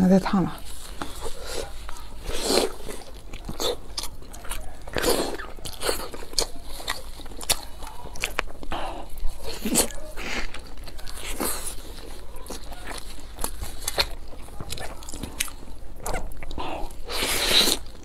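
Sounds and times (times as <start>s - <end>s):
crunchy chewing: 0.6s - 18.0s.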